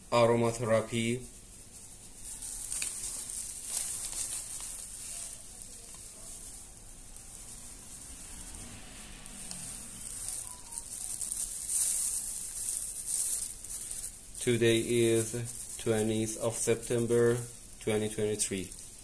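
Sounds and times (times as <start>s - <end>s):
dry seeds rustling and trickling: 0.0s - 19.0s
plastic glove and sack crinkling: 0.0s - 19.0s.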